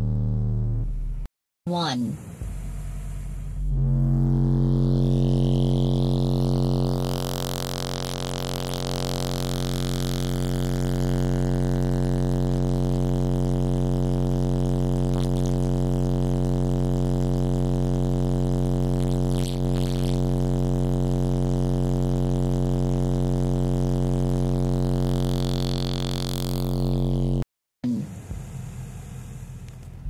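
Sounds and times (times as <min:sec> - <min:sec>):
buzzy low subwoofer test tone: 0:00.0 - 0:30.0.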